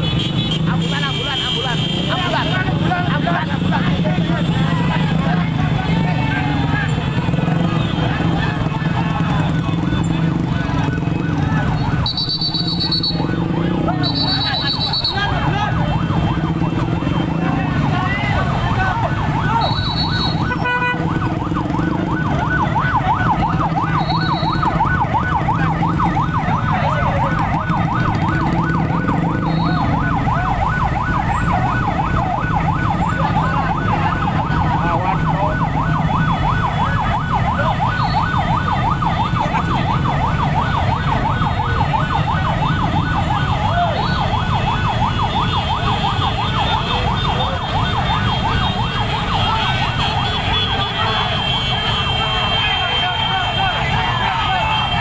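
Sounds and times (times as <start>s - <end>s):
vehicle engines rumbling: 0.0s - 55.0s
siren warbling: 4.8s - 51.3s.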